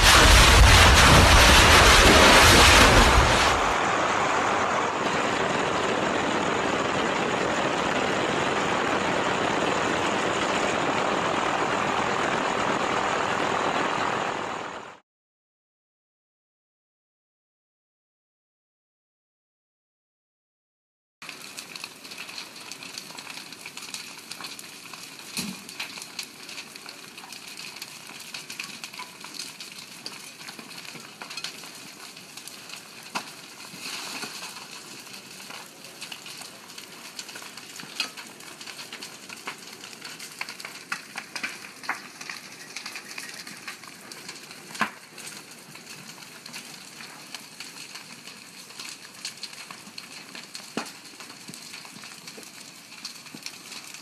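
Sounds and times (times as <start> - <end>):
fire crackling and popping: 0.0 - 14.6, 21.2 - 54.0.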